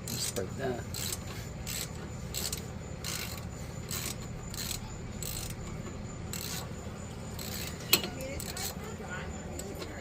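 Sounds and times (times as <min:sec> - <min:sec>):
socket ratchet clicking: 0:00.0 - 0:06.7, 0:07.3 - 0:08.8
steady low hum: 0:00.0 - 0:10.0.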